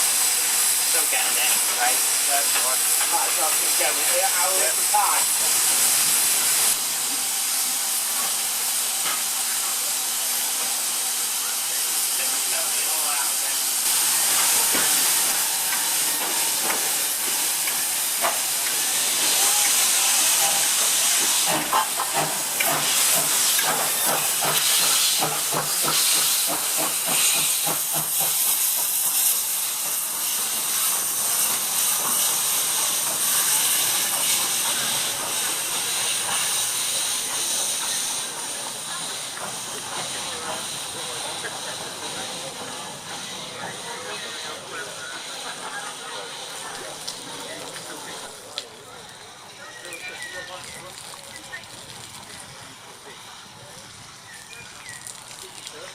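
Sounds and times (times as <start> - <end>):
steam locomotive hissing: 0.0 - 55.9.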